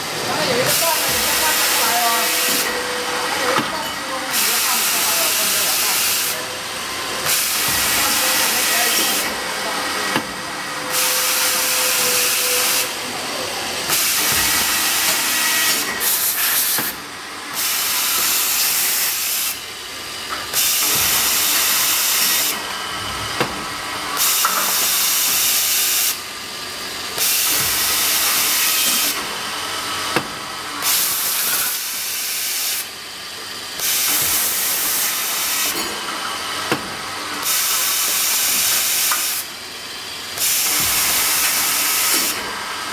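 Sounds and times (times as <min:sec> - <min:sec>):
machine hissing: 0:00.0 - 0:42.9.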